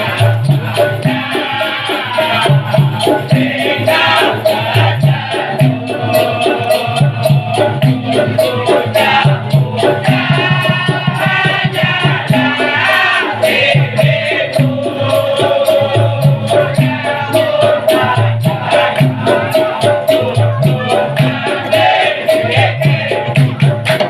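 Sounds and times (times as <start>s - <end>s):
drums: 0.0s - 24.0s
shaker rhythm: 0.0s - 24.0s.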